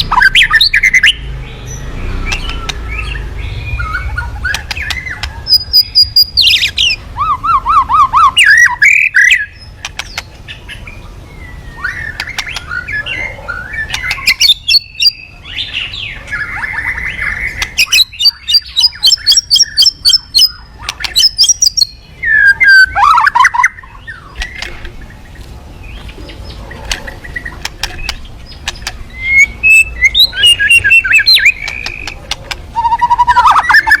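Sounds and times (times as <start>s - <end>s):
songbird singing varied song: 0.0s - 34.0s.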